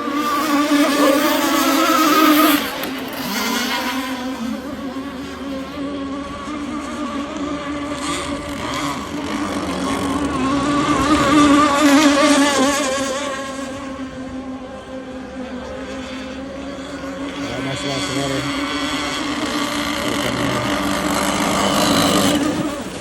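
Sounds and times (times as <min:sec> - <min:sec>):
boat engines buzzing: 0:00.0 - 0:23.0.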